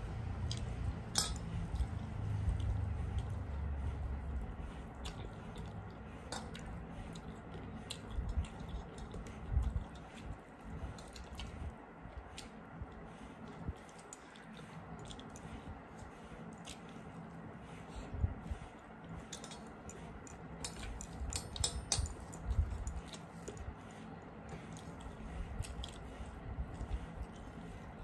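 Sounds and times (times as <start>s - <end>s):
fingers squishing rice on plates: 0.1s - 28.0s
wet chewing and mouth clicks: 0.3s - 17.2s, 18.4s - 28.0s.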